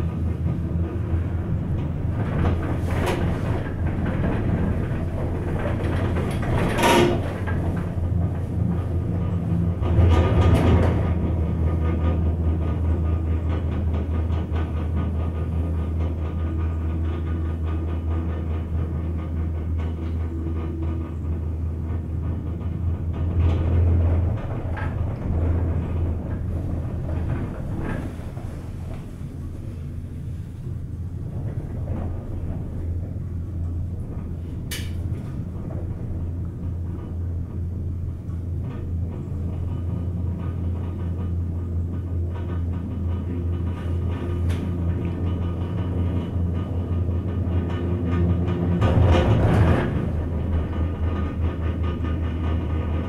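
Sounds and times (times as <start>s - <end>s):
gondola cabin hum and rumble: 0.0s - 53.0s.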